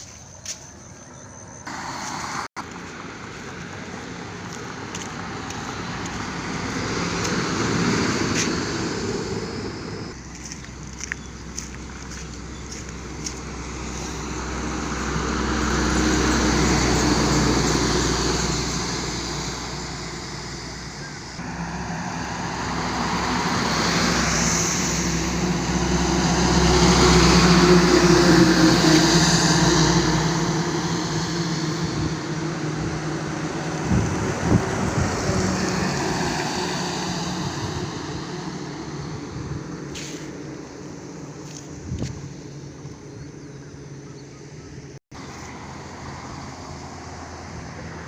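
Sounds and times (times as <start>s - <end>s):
heavy vehicles passing: 1.5s - 48.0s.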